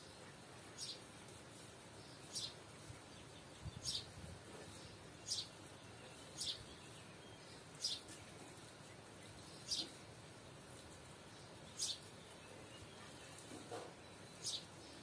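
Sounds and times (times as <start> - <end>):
faint outdoor background: 0.0 - 15.0
bird chirping: 0.8 - 1.1, 2.0 - 10.0, 11.3 - 15.0.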